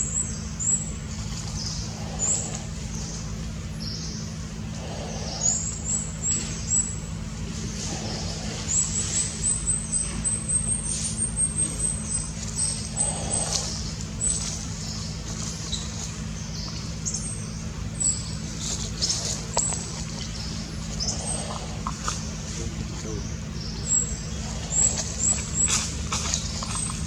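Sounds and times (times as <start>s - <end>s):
bird chirping: 0.0s - 27.0s
distant road traffic rumble: 0.0s - 27.0s.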